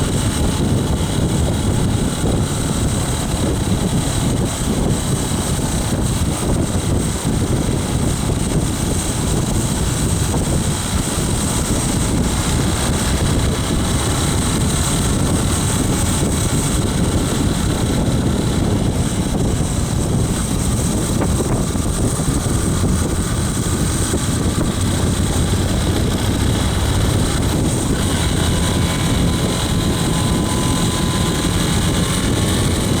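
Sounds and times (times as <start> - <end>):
hay baler running: 0.0 - 33.0
tractor engine drone: 0.0 - 33.0.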